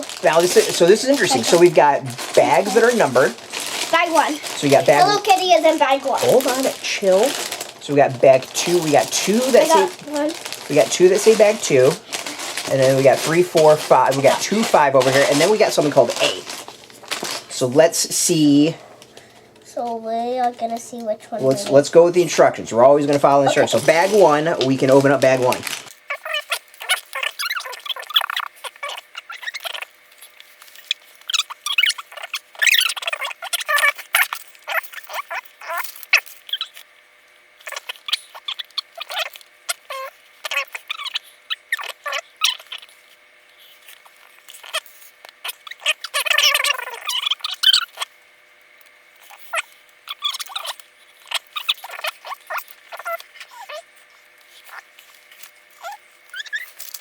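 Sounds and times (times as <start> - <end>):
plastic bag crinkling: 0.0 - 21.8, 23.0 - 57.0.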